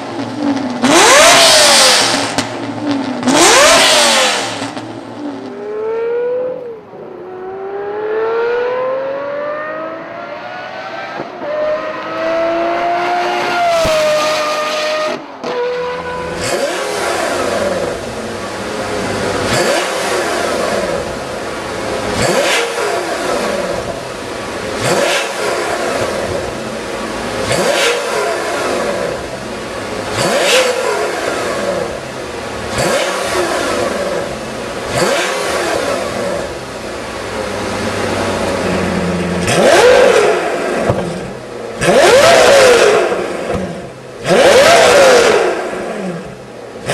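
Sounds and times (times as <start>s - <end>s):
sports car engine revving: 0.0s - 46.9s
exhaust bark: 3.2s - 46.9s.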